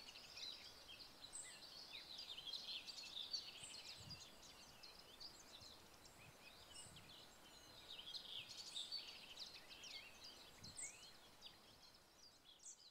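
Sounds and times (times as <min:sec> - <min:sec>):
songbirds chirping and trilling: 0:00.0 - 0:12.9.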